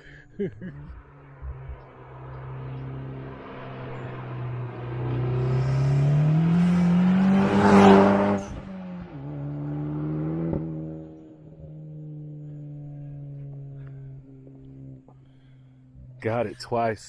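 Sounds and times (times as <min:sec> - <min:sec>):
car engine accelerating: 0:00.1 - 0:16.8.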